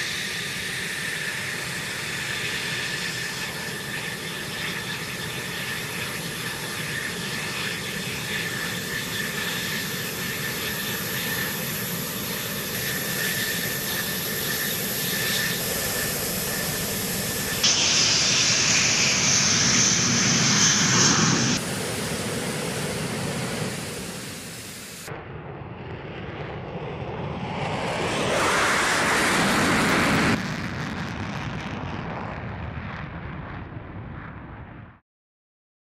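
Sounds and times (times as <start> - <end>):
jet engine whining: 0.0 - 32.3
jet afterburner takeoff roar: 0.0 - 35.0.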